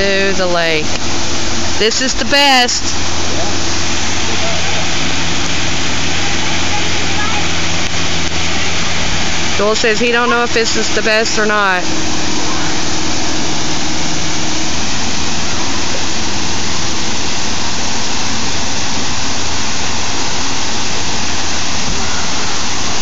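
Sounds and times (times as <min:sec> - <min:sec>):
low steady hum: 0:00.0 - 0:23.0
waterfall rushing: 0:00.0 - 0:23.0.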